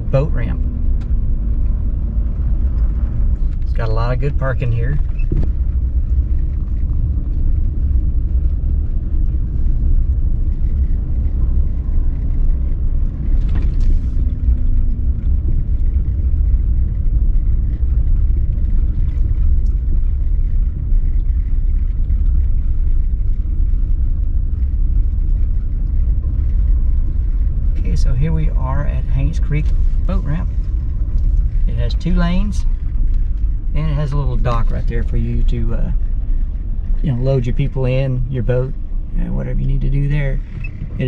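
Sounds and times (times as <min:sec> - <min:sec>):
truck engine and road noise: 0:00.0 - 0:41.0.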